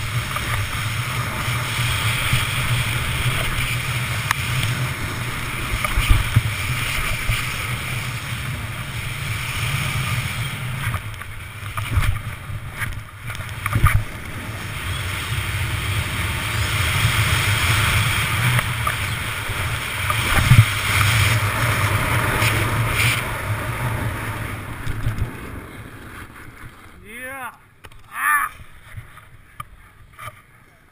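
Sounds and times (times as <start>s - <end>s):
snowboard scraping over snow: 0.0s - 30.7s.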